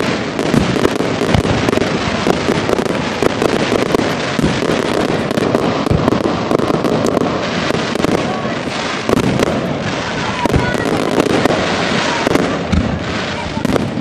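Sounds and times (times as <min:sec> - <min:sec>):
fireworks booms: 0:00.0 - 0:14.0
fireworks crackling and popping: 0:00.0 - 0:14.0.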